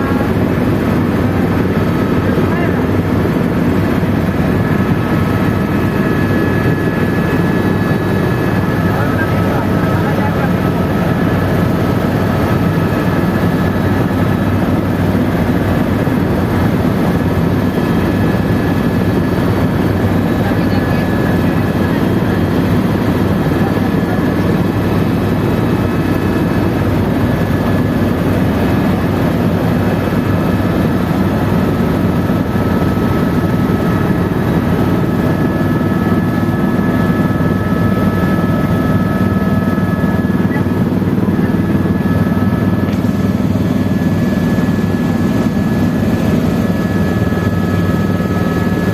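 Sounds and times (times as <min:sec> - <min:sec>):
helicopter rotor and engine drone: 0:00.0 - 0:48.9.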